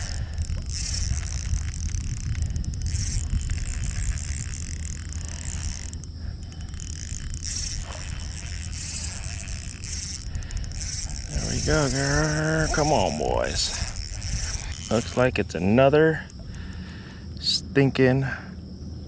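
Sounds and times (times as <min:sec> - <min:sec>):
wind on microphone: 0:00.0 - 0:17.0
fishing reel whirring and clicking: 0:00.0 - 0:17.6.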